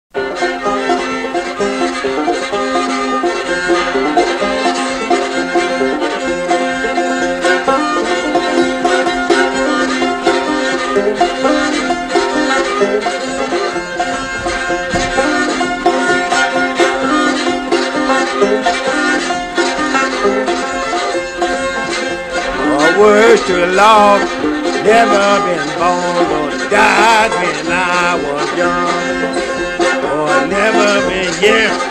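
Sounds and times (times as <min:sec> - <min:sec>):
banjo and fiddle playing: 0:00.1 - 0:31.9
held drone note: 0:00.2 - 0:31.9.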